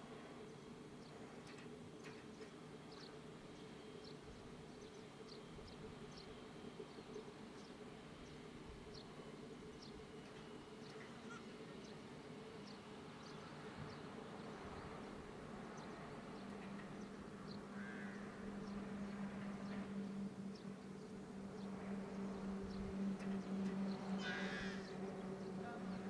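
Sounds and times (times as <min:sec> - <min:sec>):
faint jet engine hum: 0:00.0 - 0:26.0.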